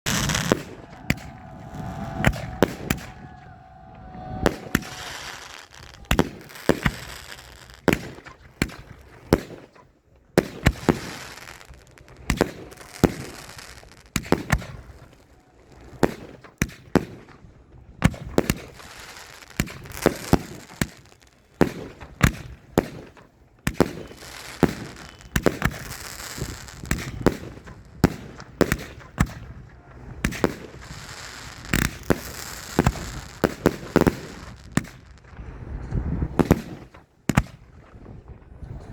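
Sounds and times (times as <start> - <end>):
fireworks crackling: 0.0 - 17.2, 18.0 - 38.6
fireworks bangs: 0.0 - 17.4, 18.0 - 38.9.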